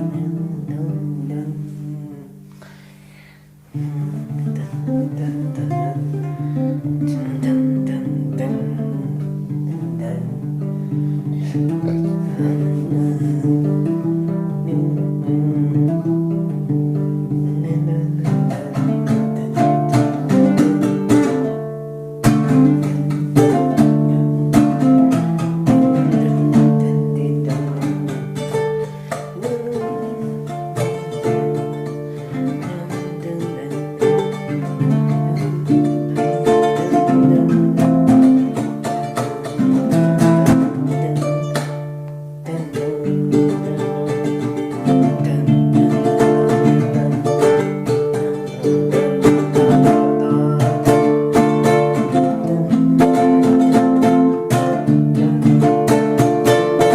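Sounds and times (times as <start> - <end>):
acoustic guitar music: 0.0 - 56.9.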